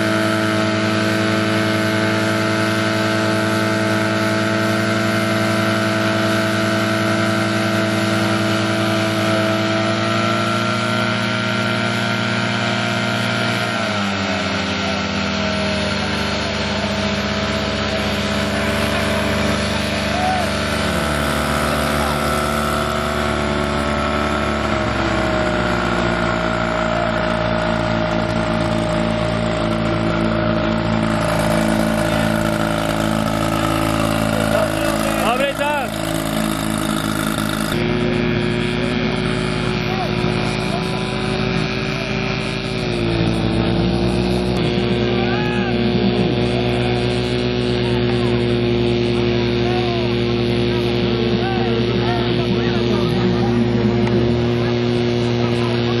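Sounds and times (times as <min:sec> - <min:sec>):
fire pump engine running: 0:00.0 - 0:56.0.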